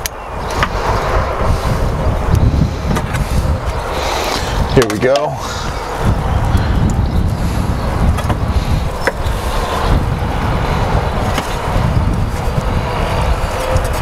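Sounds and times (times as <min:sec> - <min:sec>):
steady low rumbling: 0:00.0 - 0:14.0.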